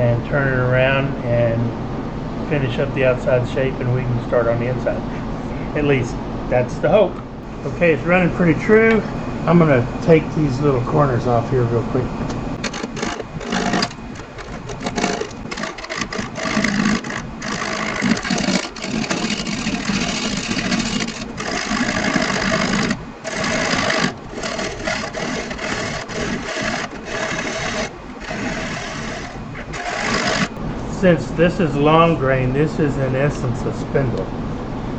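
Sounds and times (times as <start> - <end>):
wood lathe cutting chatter: 0.0 - 34.2.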